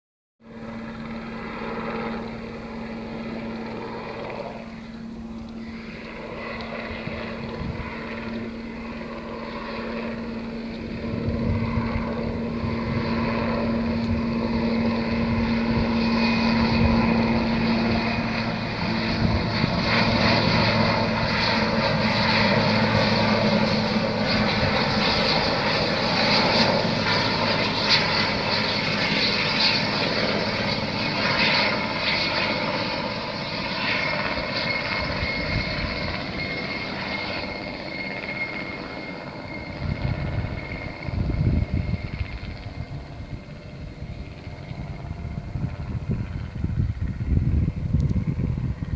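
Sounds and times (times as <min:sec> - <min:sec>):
helicopter flying past: 0:00.4 - 0:48.9.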